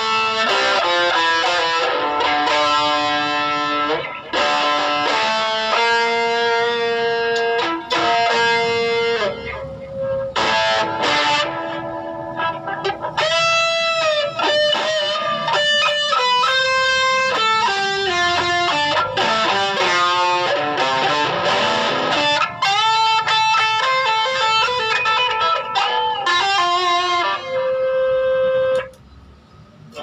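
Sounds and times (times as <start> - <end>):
electric guitar lead with vibrato: 0.0 - 28.9.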